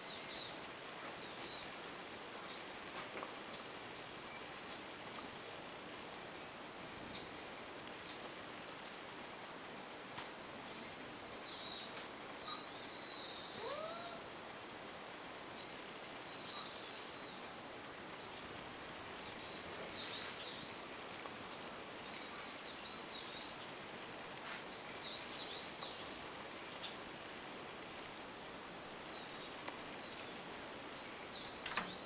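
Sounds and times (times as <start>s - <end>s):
small birds chirping: 0.0s - 32.0s
steady background hiss: 0.0s - 32.0s.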